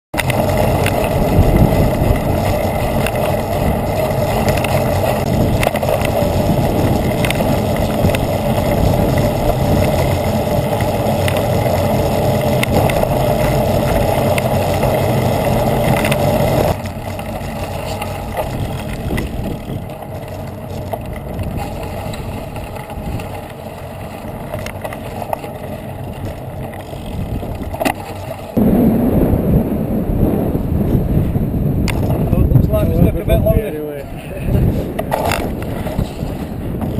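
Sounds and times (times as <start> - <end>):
vehicle engine: 0.1 - 36.9
wind noise: 0.2 - 36.9.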